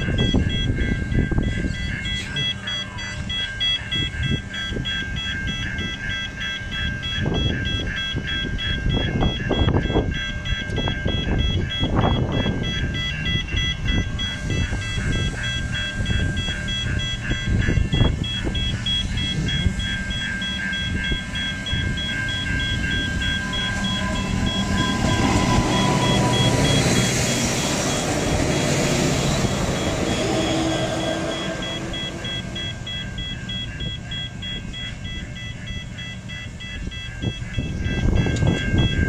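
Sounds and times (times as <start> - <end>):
crossing alarm beeping rapidly: 0.0 - 39.0
train rumble and wheel noise: 0.0 - 39.0.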